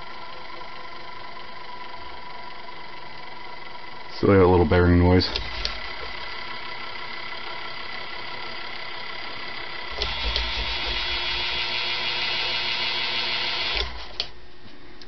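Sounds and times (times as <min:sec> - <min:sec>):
ceiling fan motor humming: 0:00.0 - 0:15.0
fan bearing noise: 0:00.0 - 0:15.0.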